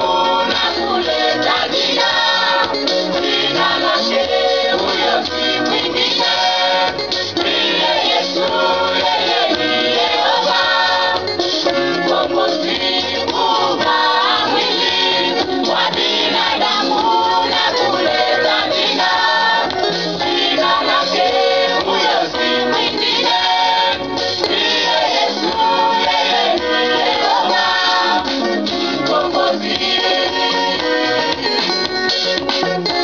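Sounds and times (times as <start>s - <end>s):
women's choir singing gospel: 0.0s - 31.6s
steady beat: 0.0s - 32.9s.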